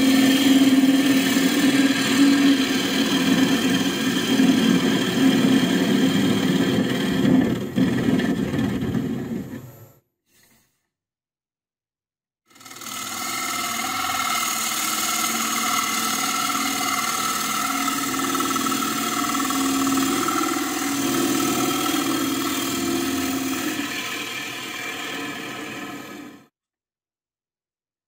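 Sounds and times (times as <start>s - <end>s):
wood lathe motor whine: 0.0s - 9.7s, 12.5s - 26.5s.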